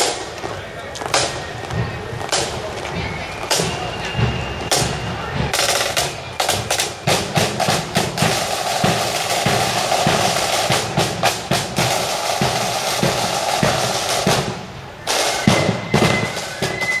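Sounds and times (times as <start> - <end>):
snare drums rolling: 1.1 - 17.0.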